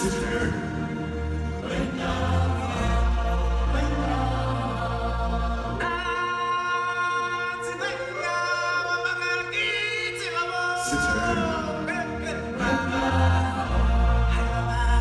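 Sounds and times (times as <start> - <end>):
chant-like singing with music: 0.0 - 15.0.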